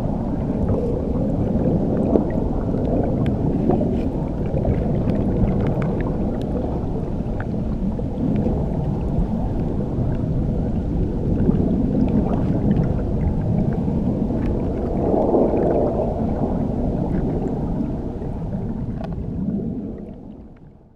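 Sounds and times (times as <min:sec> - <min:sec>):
underwater water rumble: 0:00.0 - 0:20.9.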